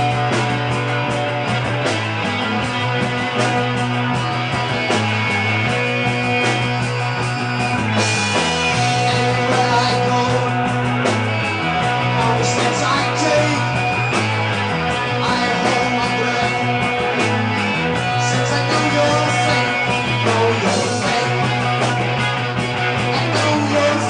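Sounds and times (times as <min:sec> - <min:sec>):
bass guitar: 0:00.0 - 0:24.0
drums: 0:00.0 - 0:24.0
electric guitars: 0:00.0 - 0:24.0.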